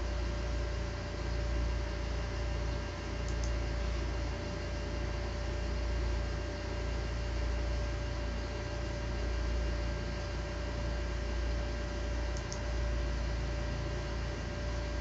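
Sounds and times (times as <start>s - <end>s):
laptop hum and hiss: 0.0s - 15.0s.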